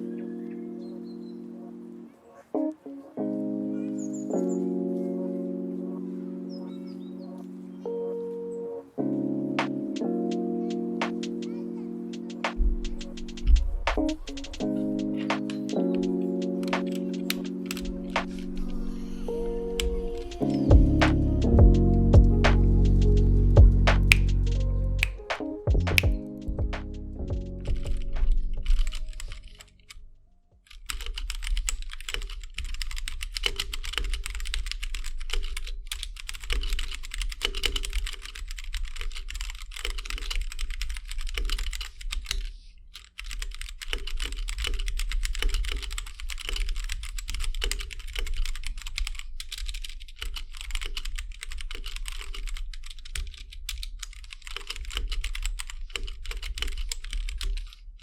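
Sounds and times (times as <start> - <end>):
mechanical keyboard typing: 9.5 - 30.0, 30.7 - 58.0.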